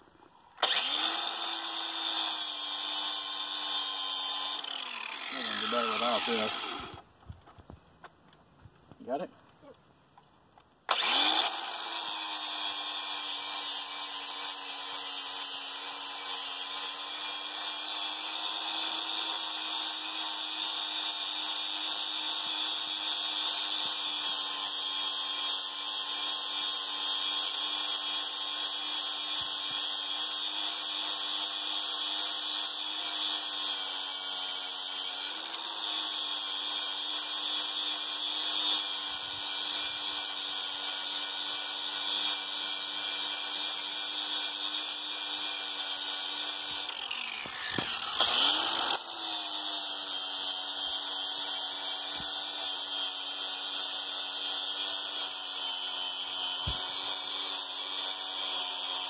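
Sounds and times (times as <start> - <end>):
angle grinder grinding metal: 0.6 - 7.0, 10.9 - 59.0.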